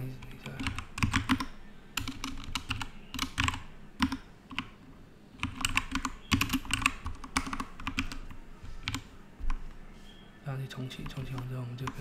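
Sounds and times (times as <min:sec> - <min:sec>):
computer keyboard typing: 0:00.0 - 0:04.8, 0:05.4 - 0:09.6, 0:10.8 - 0:12.0.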